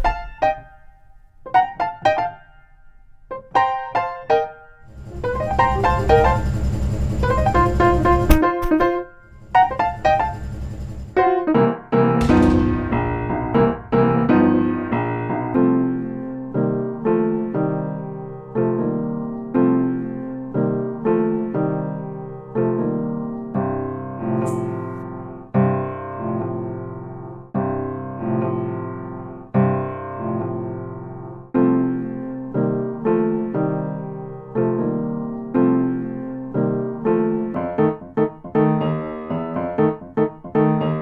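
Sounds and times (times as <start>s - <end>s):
solo piano music: 0.0s - 6.6s, 11.2s - 41.0s.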